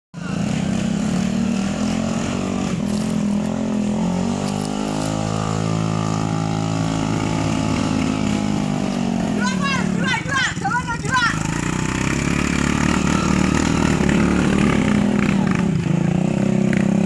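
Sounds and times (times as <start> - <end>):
vehicle engine running: 0.2 - 17.0.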